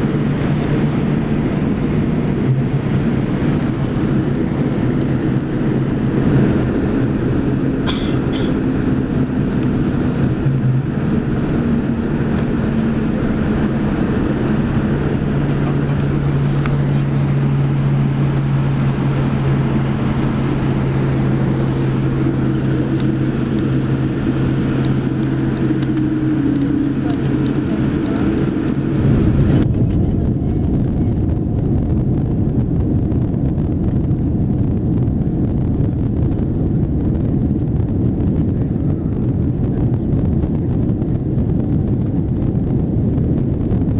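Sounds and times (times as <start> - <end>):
jet cabin engine rumble: 0.0 - 43.9
low steady hum: 0.0 - 43.9.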